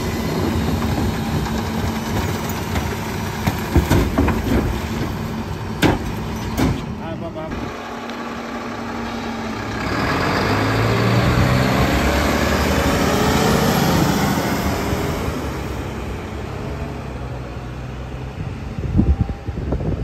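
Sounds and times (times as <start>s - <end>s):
garbage truck driving past: 0.0s - 19.6s.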